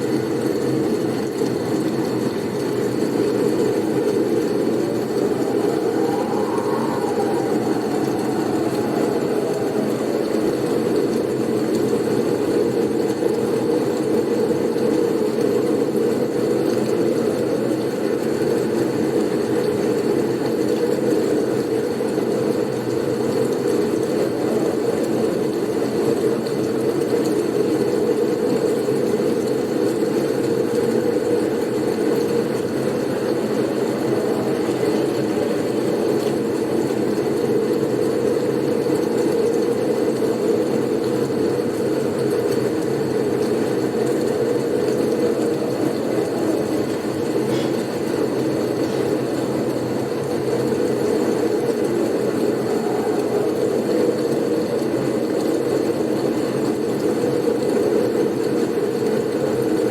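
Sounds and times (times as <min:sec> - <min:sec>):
blizzard wind rumbling: 0:00.1 - 0:26.4, 0:30.3 - 0:56.6.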